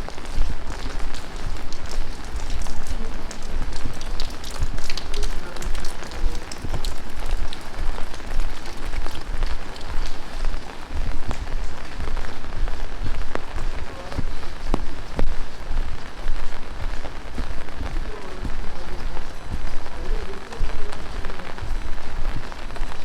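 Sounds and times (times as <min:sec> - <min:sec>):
close raindrop taps: 0:00.0 - 0:23.0
heavy rain hissing: 0:00.0 - 0:23.0.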